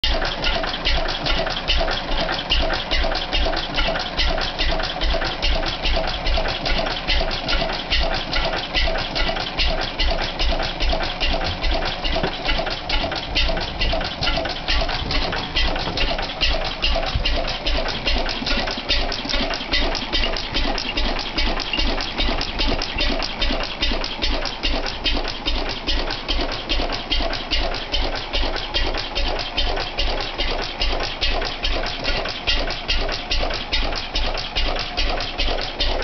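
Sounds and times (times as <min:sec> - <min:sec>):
engine clicks clattering: 0:00.0 - 0:36.0
stationary engine running: 0:00.0 - 0:36.0.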